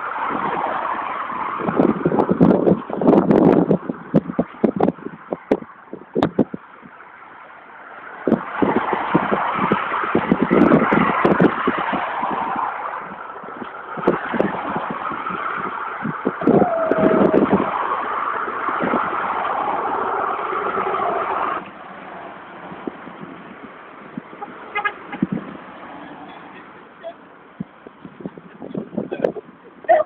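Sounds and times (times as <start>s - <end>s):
passing traffic rushing: 0.0s - 30.0s.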